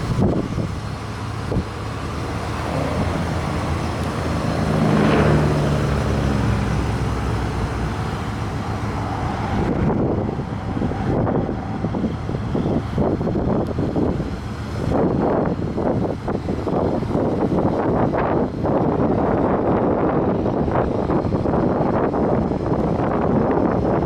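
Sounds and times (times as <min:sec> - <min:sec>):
truck engine driving past: 0:00.0 - 0:24.0.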